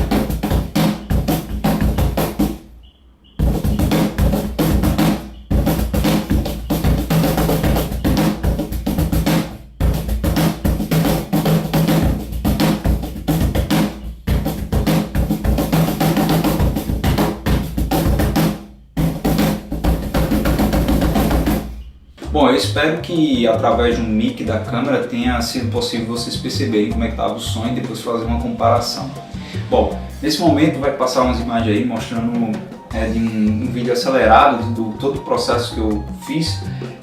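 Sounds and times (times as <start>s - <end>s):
cajon bass strokes and slaps: 0.0s - 2.7s, 3.4s - 37.0s.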